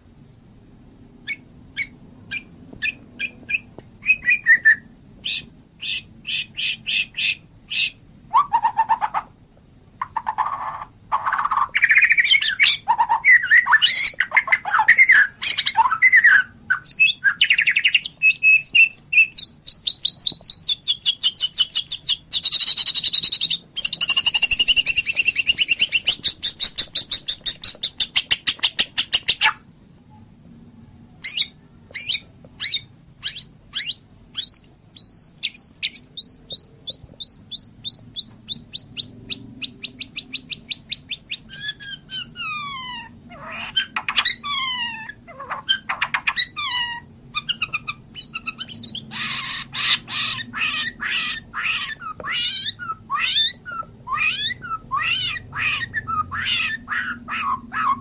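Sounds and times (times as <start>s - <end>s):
bird singing: 1.2s - 9.2s, 10.0s - 30.0s, 31.2s - 58.0s.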